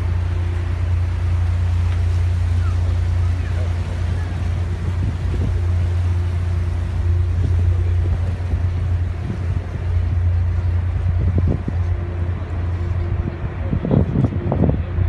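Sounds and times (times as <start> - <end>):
ferry engines droning: 0.0 - 15.0.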